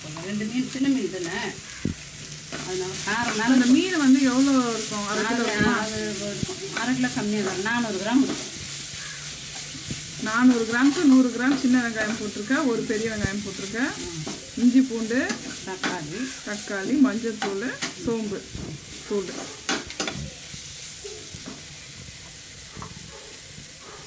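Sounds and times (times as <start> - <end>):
masala sizzling: 0.0 - 24.0
spatula scraping a pan: 1.6 - 23.0.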